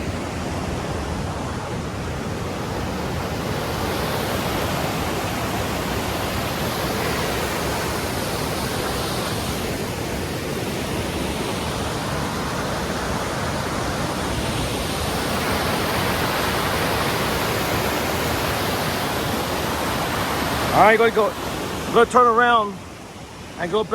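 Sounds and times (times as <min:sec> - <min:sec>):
fast-flowing creek water: 0:00.0 - 0:23.9.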